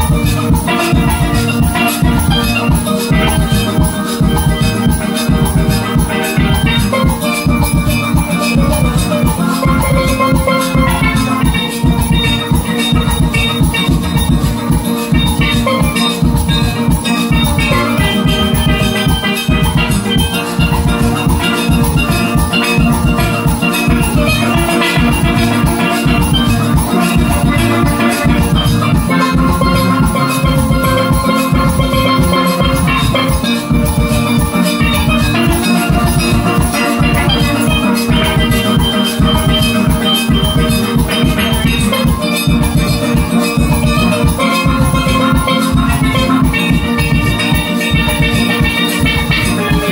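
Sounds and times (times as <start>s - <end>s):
low drum beat: 0.0s - 49.9s
steelpans ringing: 0.0s - 49.9s.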